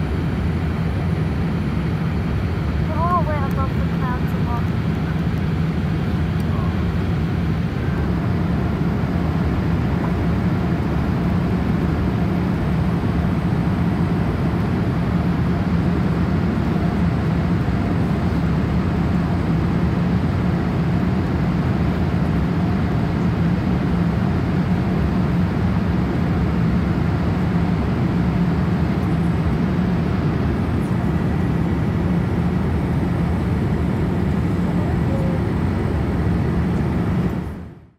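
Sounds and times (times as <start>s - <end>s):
airplane cabin rumble: 0.0s - 37.9s.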